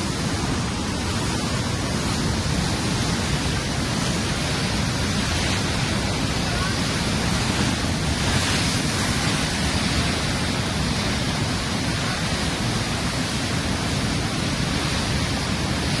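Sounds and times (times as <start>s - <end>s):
river roaring through cascade: 0.0s - 16.0s.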